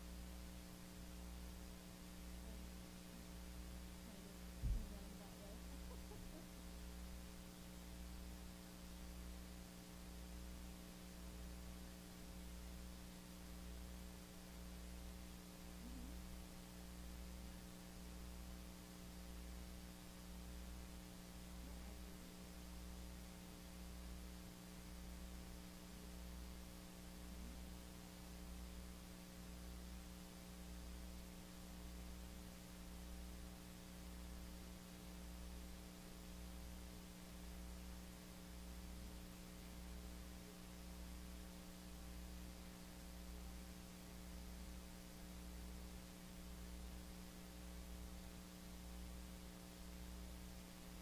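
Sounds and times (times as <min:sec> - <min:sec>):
faint throbbing hum with hiss: 0:00.0 - 0:51.0.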